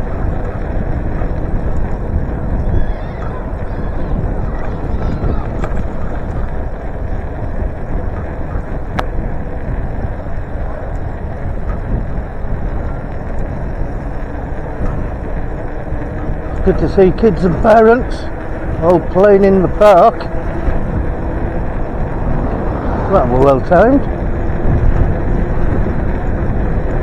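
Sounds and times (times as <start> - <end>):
wind rumbling over microphone: 0.0 - 27.0.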